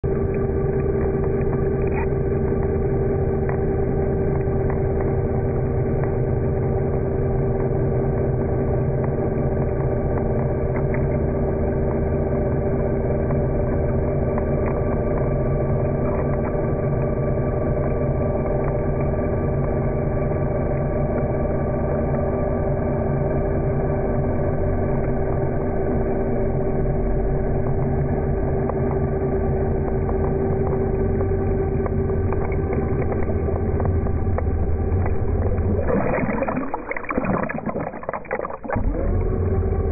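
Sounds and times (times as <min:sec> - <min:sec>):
electric motor humming underwater: 0:00.1 - 0:23.1, 0:27.6 - 0:39.9.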